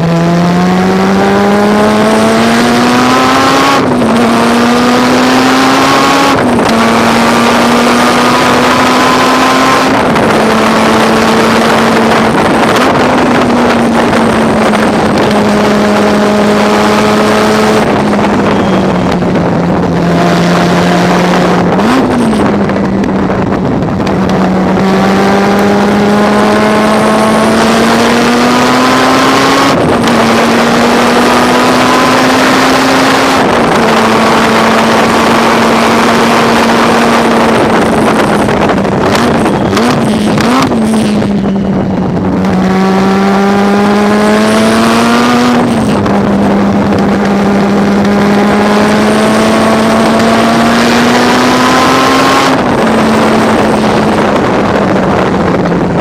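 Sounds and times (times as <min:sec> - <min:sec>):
race car engine revving: 0:00.0 - 0:56.0
wind buffeting microphone: 0:00.0 - 0:56.0.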